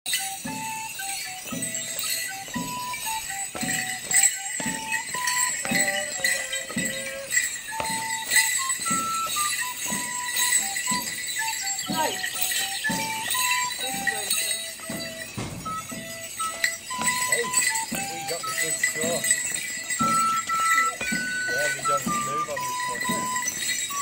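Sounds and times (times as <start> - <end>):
leg bells jingling: 0.0 - 24.0
folk dance tune: 0.1 - 24.0.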